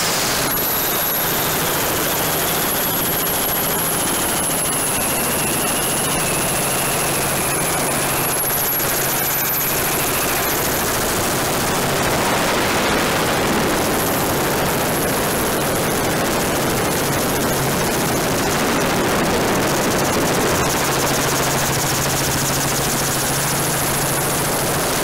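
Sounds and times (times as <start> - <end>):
helicopter engine and rotor noise: 0.0 - 25.0
high whine: 0.0 - 25.0.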